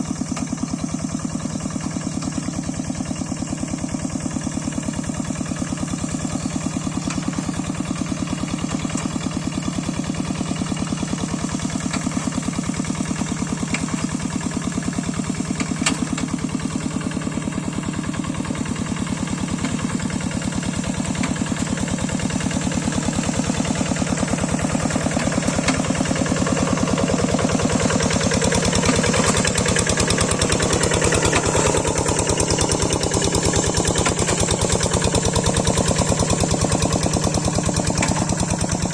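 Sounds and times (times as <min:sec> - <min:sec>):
hand tractor engine chugging: 0:00.0 - 0:38.9.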